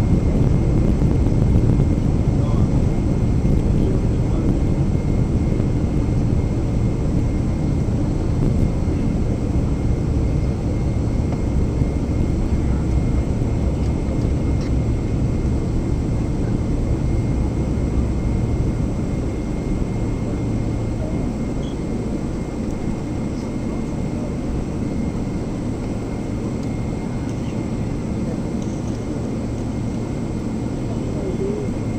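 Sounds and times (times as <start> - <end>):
aircraft cabin engine rumble: 0.0 - 31.9
faint steady whine: 0.0 - 31.9.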